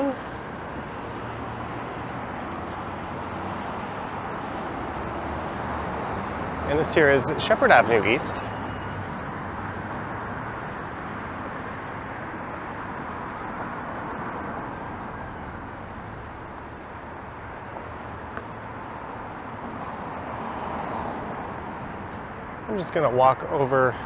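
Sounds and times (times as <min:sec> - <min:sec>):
city road traffic: 0:00.0 - 0:24.0.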